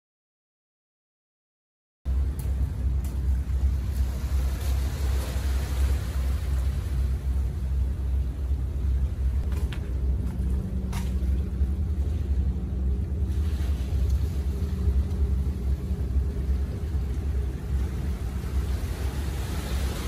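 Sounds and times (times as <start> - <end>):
boat engine rumbling: 2.1 - 20.0.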